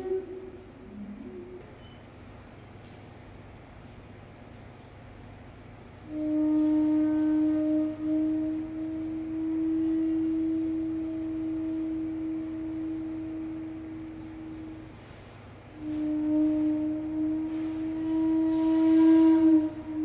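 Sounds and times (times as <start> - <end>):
bamboo flute long low note: 0.0 - 3.0, 5.9 - 20.0.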